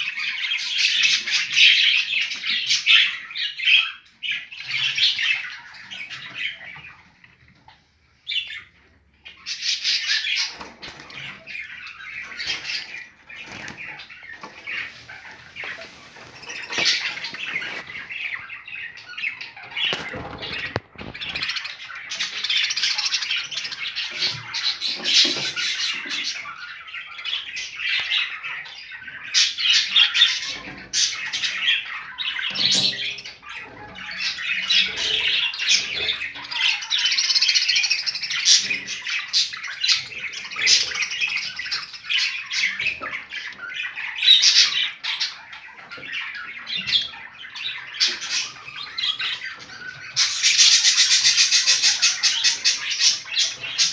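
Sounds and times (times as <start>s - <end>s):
birds chirping and squawking: 0.0s - 53.9s.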